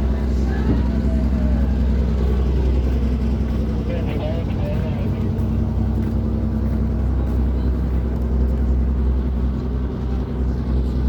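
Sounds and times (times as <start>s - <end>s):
ship engine droning: 0.0s - 11.0s.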